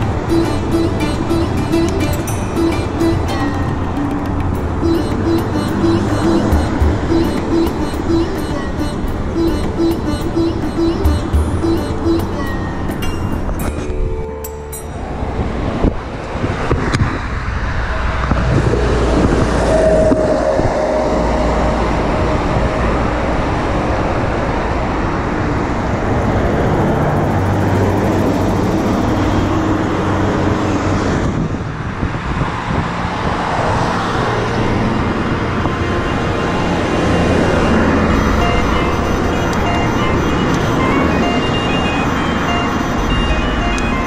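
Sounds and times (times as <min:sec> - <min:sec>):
cars going by: 0:00.0 - 0:44.0.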